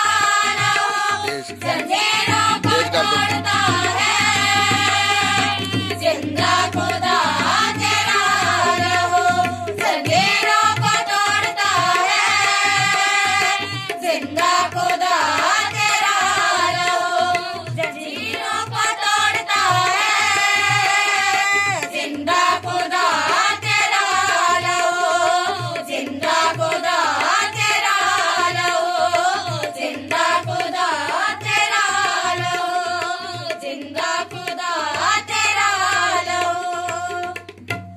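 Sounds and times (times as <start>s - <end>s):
women singing worship song: 0.0s - 37.5s
hand-drum beat: 0.0s - 37.9s.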